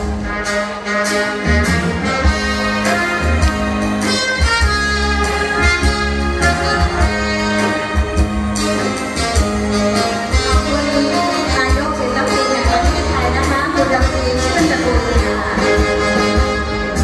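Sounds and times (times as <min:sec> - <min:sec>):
drum kit steady beat: 0:00.0 - 0:17.0
saxophone and brass melody: 0:00.0 - 0:17.0.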